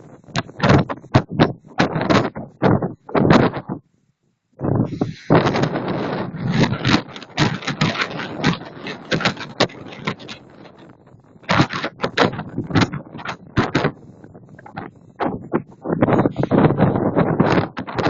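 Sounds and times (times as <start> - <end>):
wind buffeting microphone: 0.0 - 3.9, 4.6 - 18.0.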